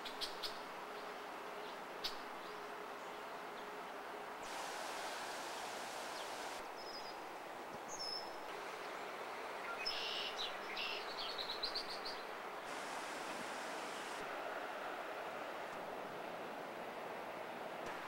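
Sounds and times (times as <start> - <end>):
city background hum: 0.0 - 18.0.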